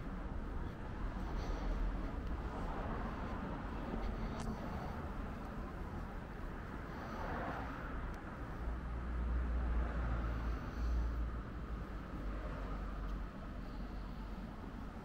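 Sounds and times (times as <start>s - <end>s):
street hum: 0.0s - 15.0s.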